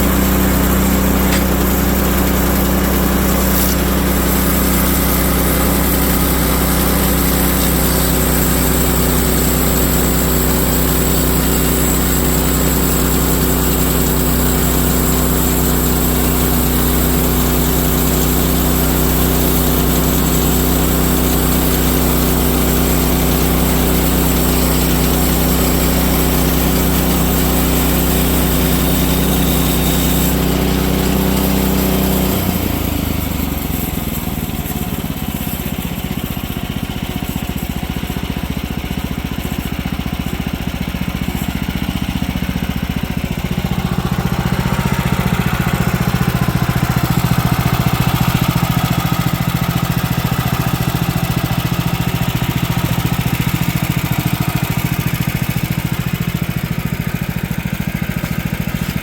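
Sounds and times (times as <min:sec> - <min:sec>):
small gasoline engine running: 0:00.0 - 0:59.0.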